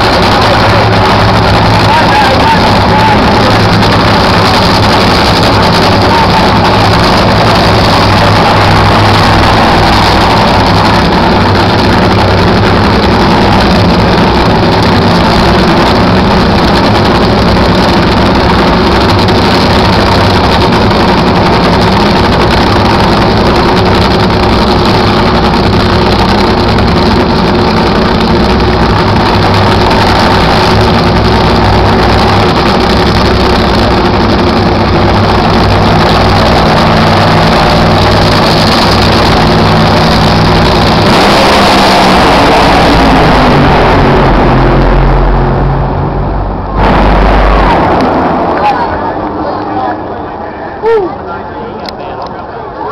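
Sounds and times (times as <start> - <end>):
loud engines idling: 0.0 - 52.9.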